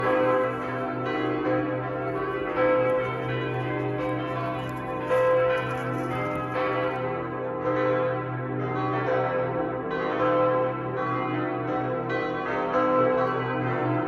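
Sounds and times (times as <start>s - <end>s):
church bells pealing: 0.0s - 14.0s.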